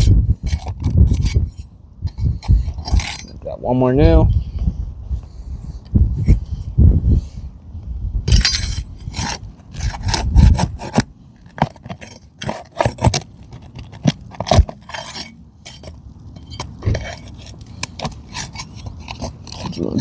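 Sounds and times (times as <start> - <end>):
metal tool scraping under shingles: 0.0 - 3.5, 5.7 - 6.7, 8.3 - 20.0.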